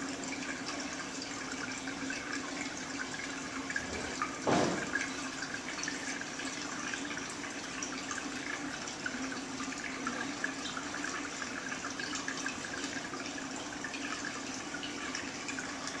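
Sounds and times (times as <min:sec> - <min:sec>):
aquarium water trickling: 0:00.0 - 0:16.0.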